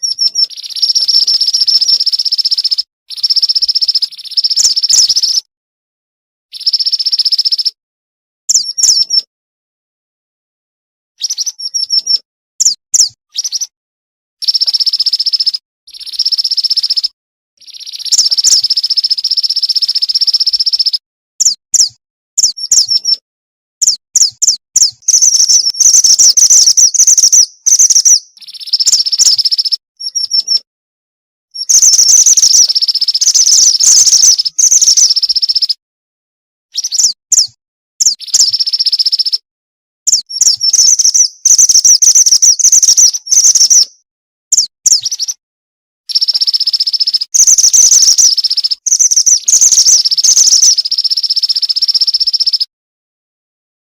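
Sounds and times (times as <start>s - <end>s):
bird chirping and trilling: 0.0s - 5.5s, 6.5s - 7.8s, 8.5s - 9.3s, 11.2s - 13.7s, 14.4s - 23.2s, 23.8s - 30.7s, 31.6s - 35.8s, 36.7s - 39.4s, 40.1s - 45.4s, 46.1s - 52.7s.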